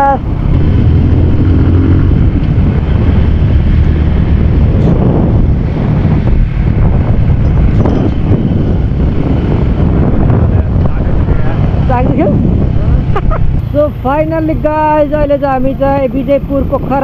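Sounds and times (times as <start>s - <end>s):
vehicle rumbling: 0.0s - 17.0s
wind buffeting microphone: 0.0s - 17.0s.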